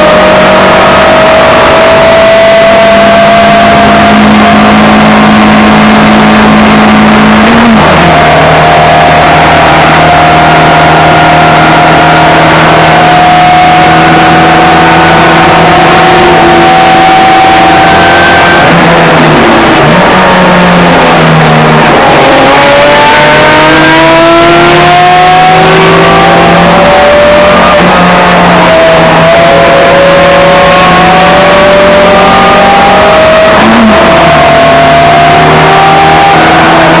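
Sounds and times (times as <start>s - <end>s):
car engine revving hard: 0.0s - 37.0s.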